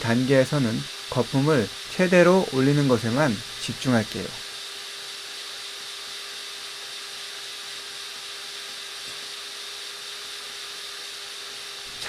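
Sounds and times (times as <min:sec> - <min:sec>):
electric hand mixer whipping: 0:00.0 - 0:12.0.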